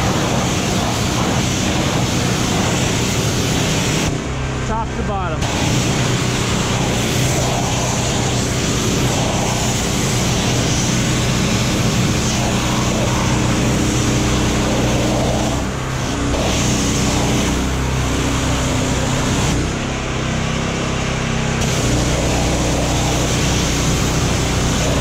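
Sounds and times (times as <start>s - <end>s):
pressure washer spraying metal: 0.0s - 19.9s, 21.5s - 25.0s
low machine hum: 0.0s - 25.0s.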